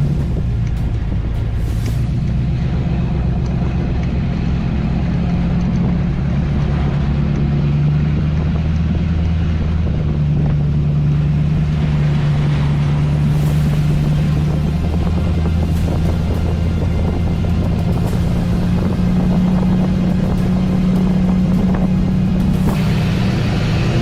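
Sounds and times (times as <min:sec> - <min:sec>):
diesel engine droning: 0:00.0 - 0:24.0
wind on microphone: 0:00.0 - 0:24.0.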